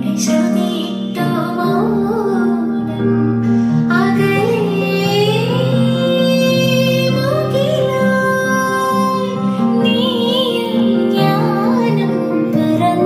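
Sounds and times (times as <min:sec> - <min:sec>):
song with high singing voice: 0:00.0 - 0:13.0.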